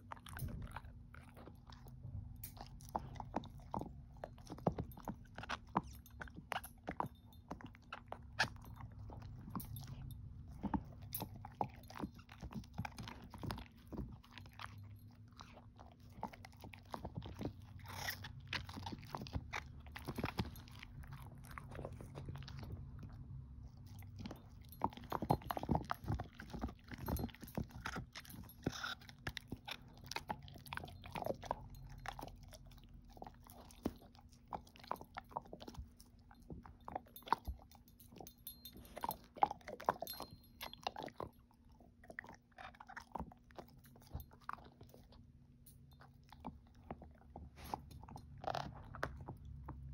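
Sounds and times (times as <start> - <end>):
dog chewing a hard treat: 0.0 - 49.9.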